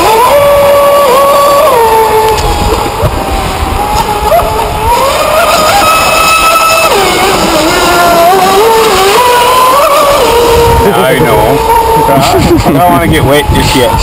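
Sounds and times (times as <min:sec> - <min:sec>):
model boat motor revving: 0:00.0 - 0:14.0.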